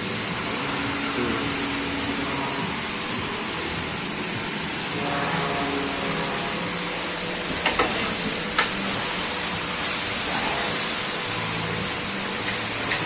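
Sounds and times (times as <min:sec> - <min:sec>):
coolant spray hiss: 0:00.0 - 0:13.0.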